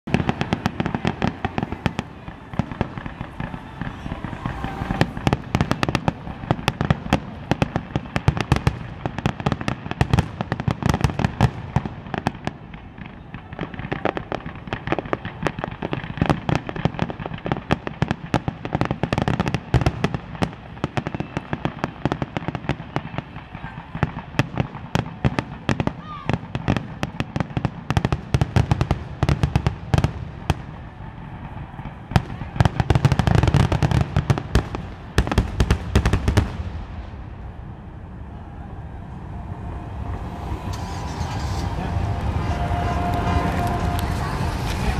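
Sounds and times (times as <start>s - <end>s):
firework bangs and crackles: 0.0s - 44.9s.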